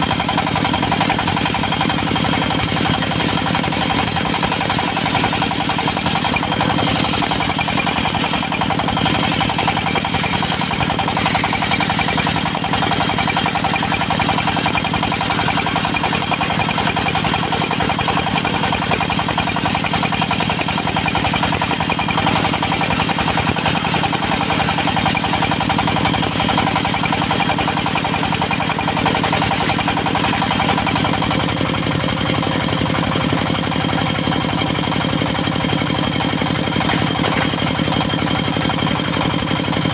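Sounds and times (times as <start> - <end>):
sawmill engine and saw droning: 0.0 - 39.9.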